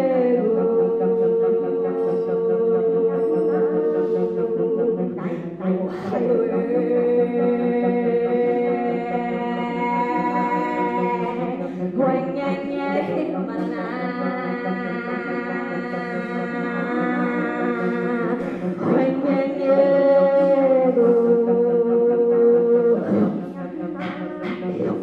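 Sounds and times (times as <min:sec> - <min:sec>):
woman singing a cappella: 0:00.0 - 0:25.0.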